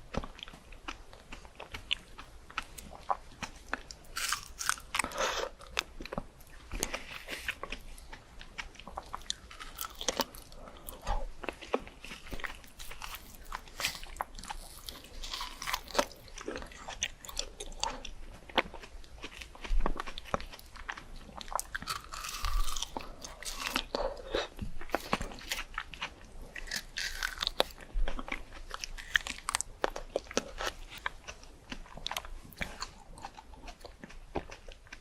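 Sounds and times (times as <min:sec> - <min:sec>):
person chewing crunchy fruit: 0:00.0 - 0:35.0.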